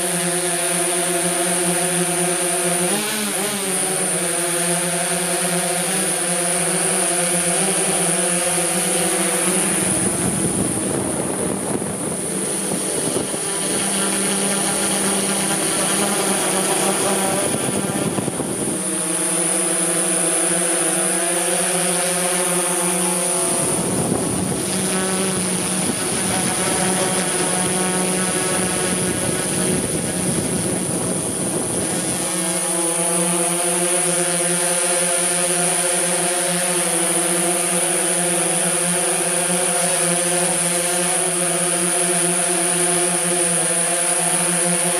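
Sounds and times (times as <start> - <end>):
drone motors humming with whine: 0.0 - 44.9.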